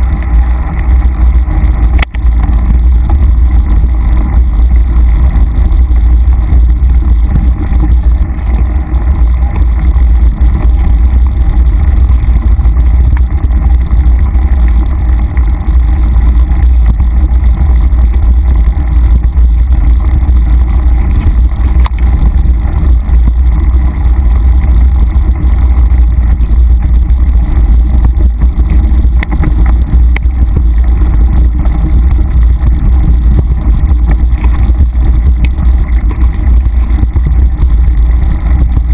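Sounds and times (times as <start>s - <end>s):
wind and trail rumble: 0.0s - 38.9s.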